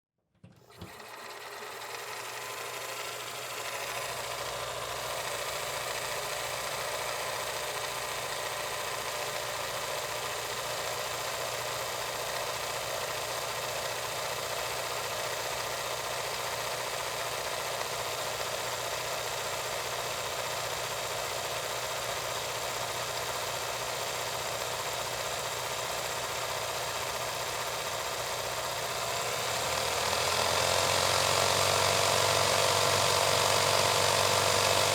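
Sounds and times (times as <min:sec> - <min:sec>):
film projector clattering: 0:00.6 - 0:34.9.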